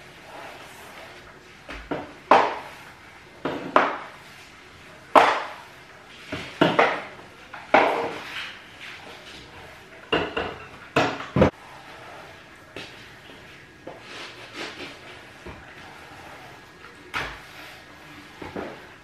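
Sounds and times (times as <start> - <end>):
mop scraping hard floor: 0.0 - 10.2, 11.0 - 19.0.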